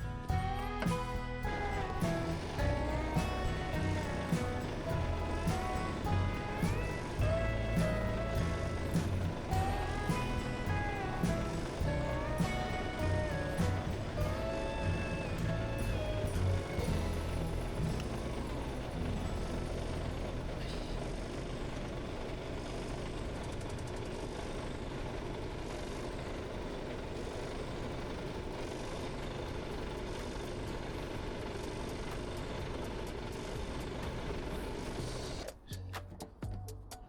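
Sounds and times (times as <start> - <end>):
truck diesel engine idling: 0.0 - 35.5.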